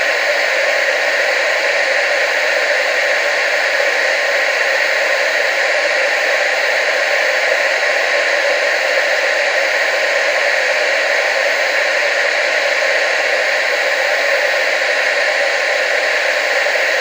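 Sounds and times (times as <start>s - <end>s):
tv static hiss: 0.0s - 17.0s.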